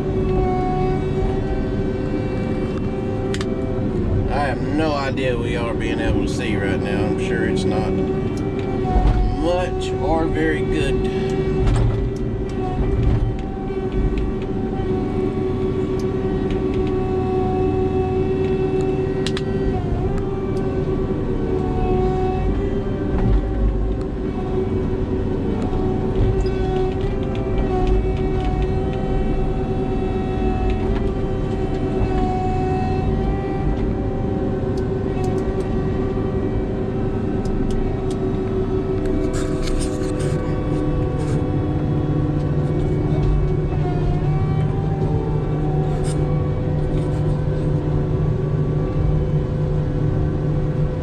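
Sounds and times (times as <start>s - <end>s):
diesel engine whining and rumbling: 0.0s - 51.0s.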